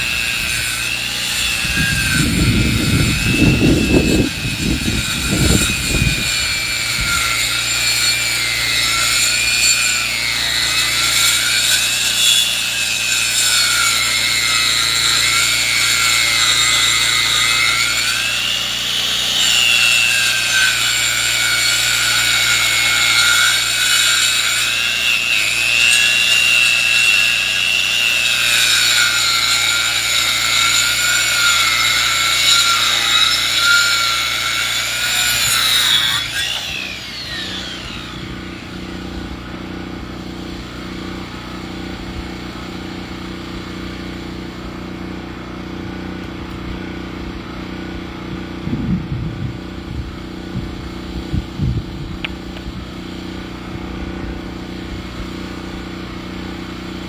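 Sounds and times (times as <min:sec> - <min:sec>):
high saw whine: 0:00.0 - 0:57.0.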